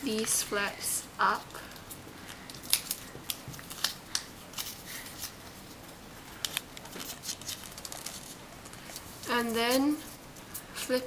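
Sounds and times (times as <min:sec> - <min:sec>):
paper crackling and rustling: 0:01.2 - 0:11.0.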